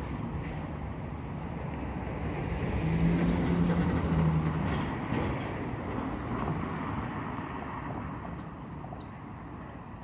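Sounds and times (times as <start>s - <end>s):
cars driving past: 0.0s - 10.0s.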